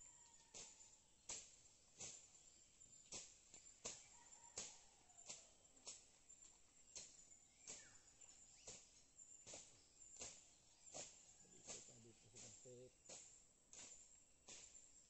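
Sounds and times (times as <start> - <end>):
blade chopping weeds: 0.5 - 6.2, 6.9 - 15.0.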